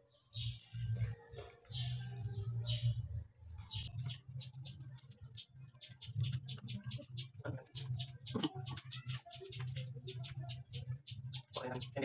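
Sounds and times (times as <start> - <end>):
people chewing food: 0.2 - 12.0.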